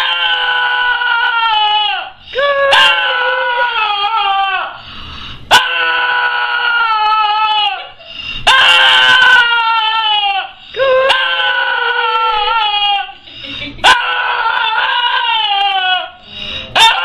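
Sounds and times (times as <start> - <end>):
dog screaming in long wails: 0.0 - 4.8, 5.5 - 13.2, 13.8 - 16.2, 16.8 - 17.0.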